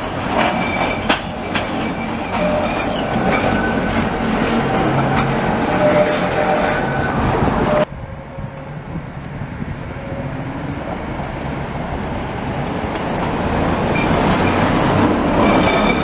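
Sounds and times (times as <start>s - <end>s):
electric railcar humming past: 0.0s - 16.0s
railcar approaching: 0.0s - 16.0s.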